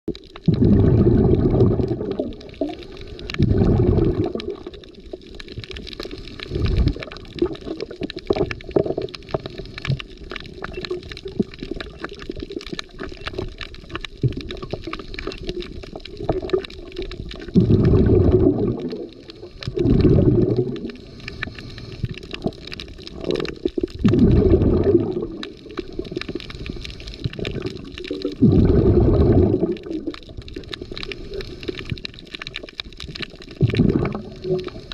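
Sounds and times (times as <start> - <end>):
crackle of fine clicks: 0.1 - 34.9
underwater breath bubbling: 0.1 - 34.9.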